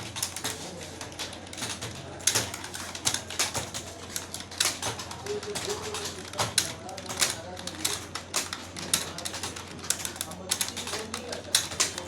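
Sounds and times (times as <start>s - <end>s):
computer keyboard typing: 0.0s - 12.0s.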